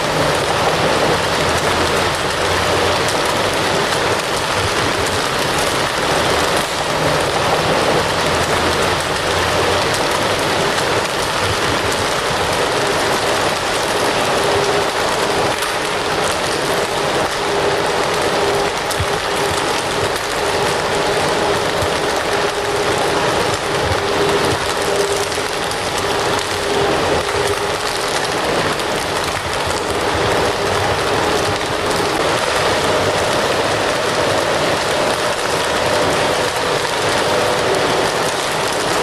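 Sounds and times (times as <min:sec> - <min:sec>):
fire crackling: 0:00.0 - 0:39.0.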